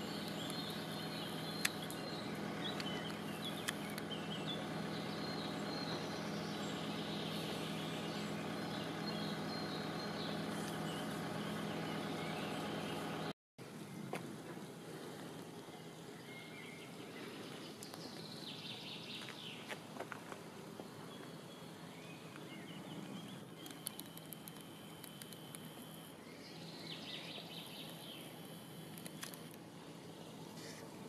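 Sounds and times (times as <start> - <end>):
outdoor background noise: 0.0 - 31.0
songbirds singing: 0.0 - 31.0.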